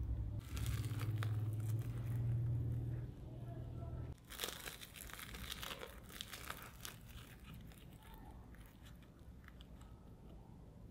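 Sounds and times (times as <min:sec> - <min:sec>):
fried dough crust crackling: 0:00.3 - 0:03.3, 0:04.1 - 0:10.2.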